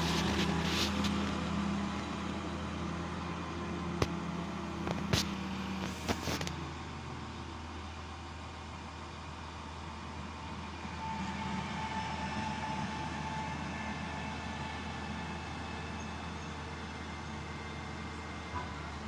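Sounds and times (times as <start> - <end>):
train running hum: 0.0 - 19.0.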